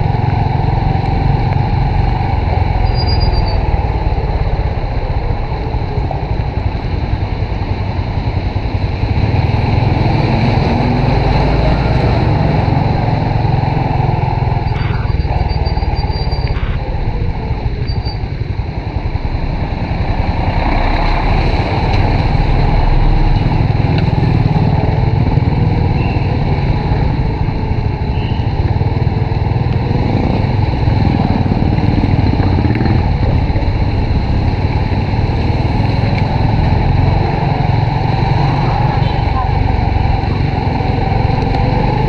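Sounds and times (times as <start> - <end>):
motorcycle engine running: 0.0 - 42.0
wind rumble on microphone: 0.0 - 42.0.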